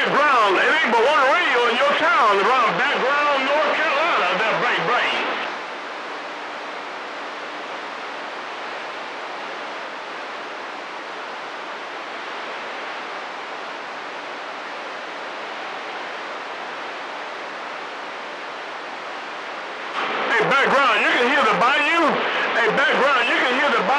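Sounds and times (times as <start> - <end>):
radio static hiss: 0.0 - 23.9.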